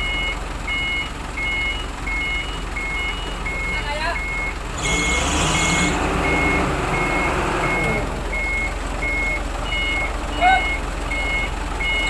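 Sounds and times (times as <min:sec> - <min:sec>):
forklift backup alarm beeping: 0:00.0 - 0:12.0
forklift engine revving: 0:00.0 - 0:12.0.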